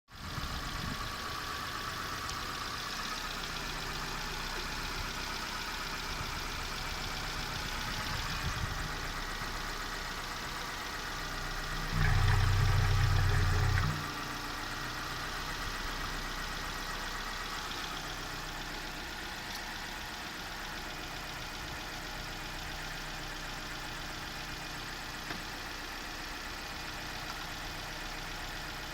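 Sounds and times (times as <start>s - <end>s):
engine idling: 0.1s - 28.9s.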